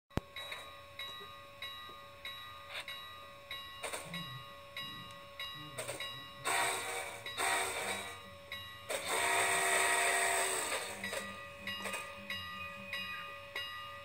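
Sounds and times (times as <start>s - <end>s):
low rumble of locomotive: 0.1s - 14.0s
locomotive bell ringing: 0.2s - 14.0s.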